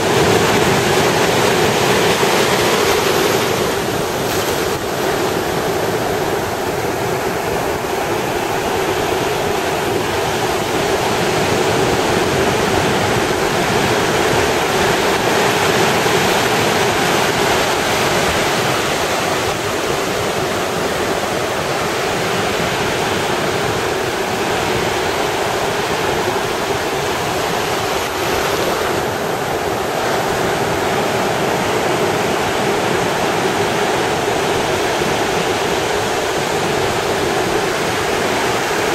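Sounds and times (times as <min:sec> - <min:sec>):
ocean surf on beach: 0:00.0 - 0:38.9.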